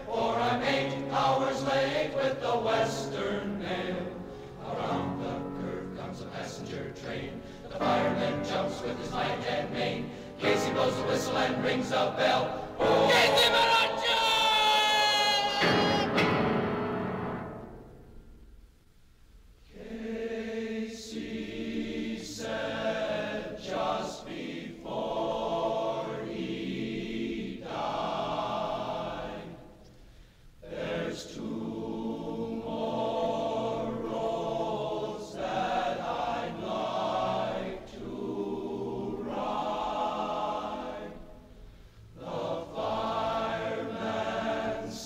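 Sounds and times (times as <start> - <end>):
choir singing sustained chords: 0.0 - 18.8, 19.6 - 45.0.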